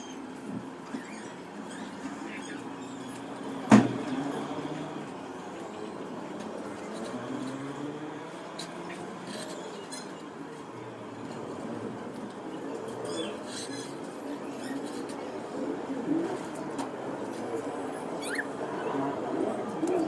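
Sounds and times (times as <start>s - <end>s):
distant vehicle engines humming: 0.0s - 20.0s.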